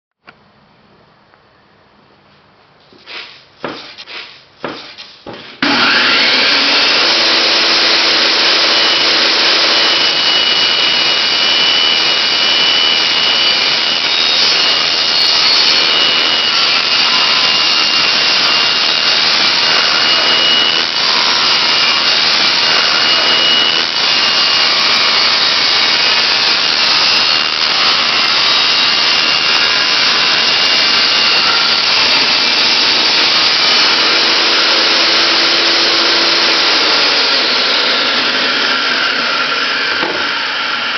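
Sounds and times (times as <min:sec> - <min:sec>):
table saw cutting plywood: 0:02.9 - 0:40.9.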